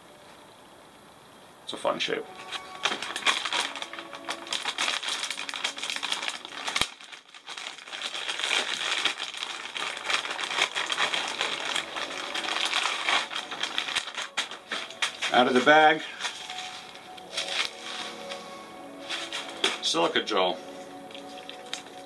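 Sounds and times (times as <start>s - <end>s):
plastic bag crinkling: 2.3s - 20.5s, 21.1s - 22.0s.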